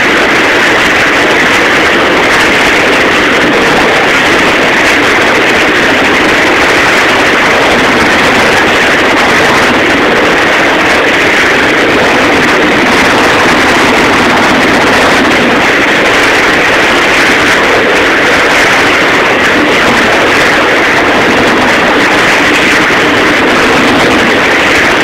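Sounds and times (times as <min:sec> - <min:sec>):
churning boat wake: 0:00.0 - 0:25.0.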